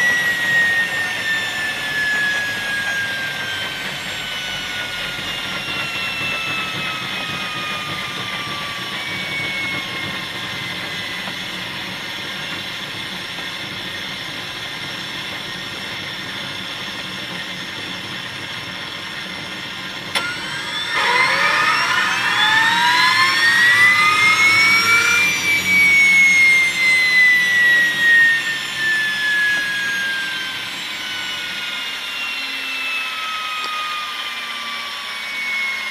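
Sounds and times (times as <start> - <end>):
small turbine engine whining: 0.0 - 35.9.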